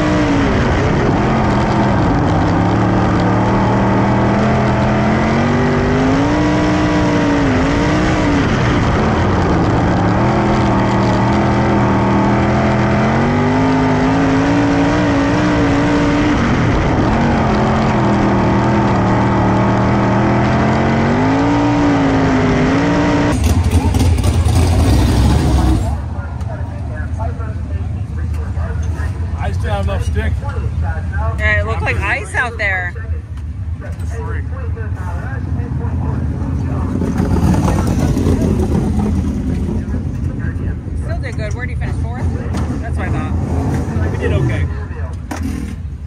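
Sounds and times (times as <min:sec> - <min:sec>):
race car engine revving: 0:00.0 - 0:32.7, 0:33.7 - 0:46.0
rumble of other cars: 0:00.0 - 0:46.0.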